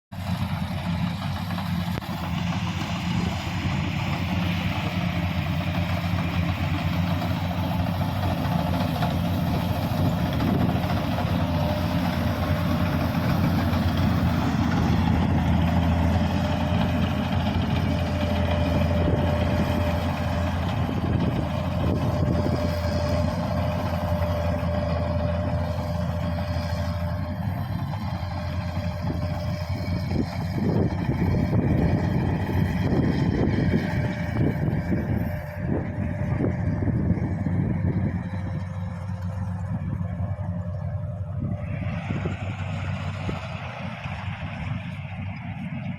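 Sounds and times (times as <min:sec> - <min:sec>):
diesel engine running under load: 0:00.1 - 0:45.9.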